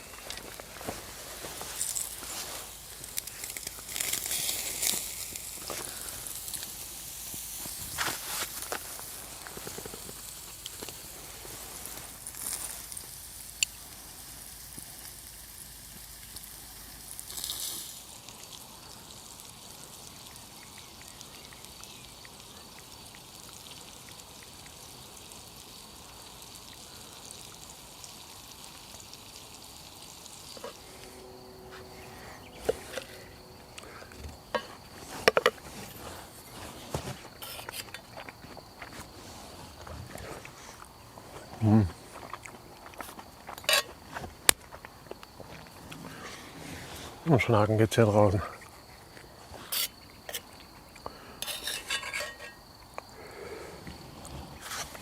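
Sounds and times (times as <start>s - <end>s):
meat sizzling: 0.0s - 47.4s, 48.1s - 55.0s
fire crackles: 0.0s - 55.0s.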